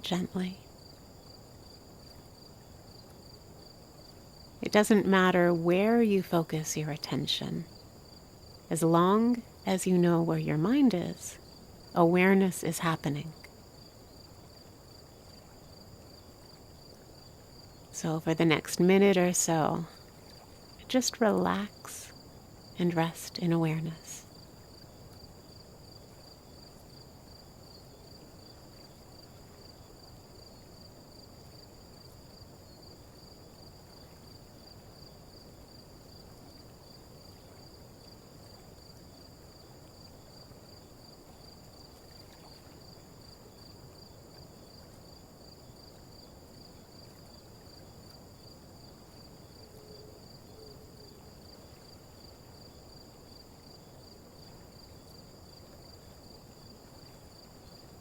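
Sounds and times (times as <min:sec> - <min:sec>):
faint insect chirring: 0:00.0 - 0:58.0
low background hiss: 0:00.0 - 0:58.0.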